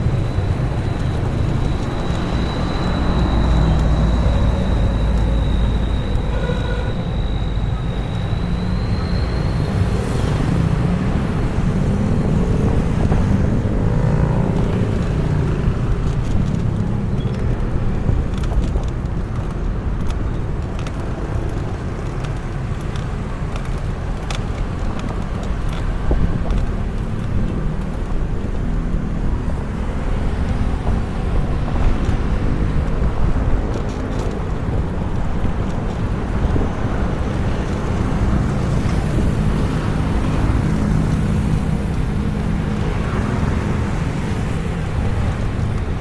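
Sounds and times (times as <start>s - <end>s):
low road rumble: 0.0s - 46.0s
passing vehicles: 0.0s - 46.0s.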